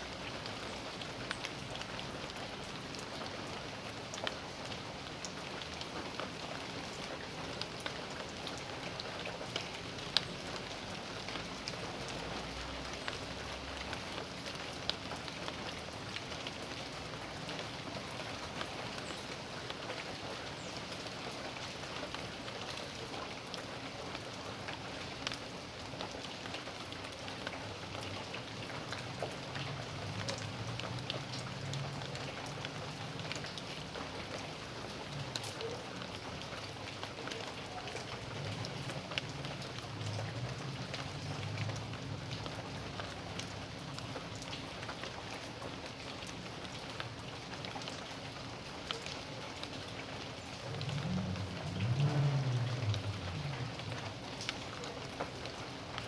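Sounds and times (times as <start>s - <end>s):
rain pattering on hard surfaces: 0.0s - 56.0s.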